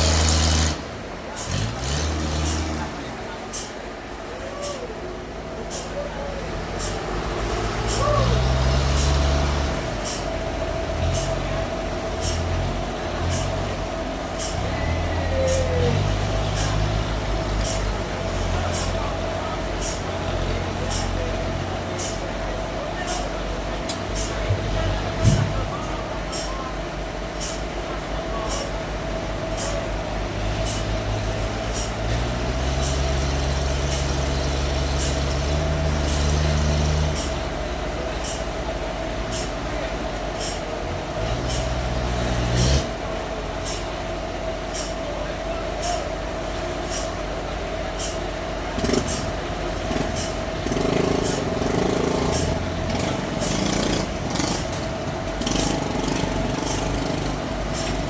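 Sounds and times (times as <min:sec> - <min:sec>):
sawmill machinery whining: 0:00.0 - 0:03.4, 0:06.3 - 0:58.0.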